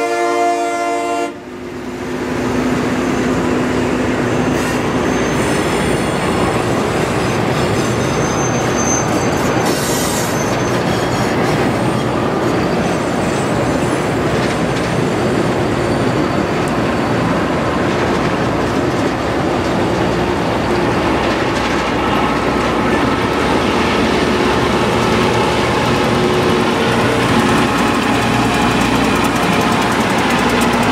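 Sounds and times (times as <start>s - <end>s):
train rolling past: 0.0s - 30.9s.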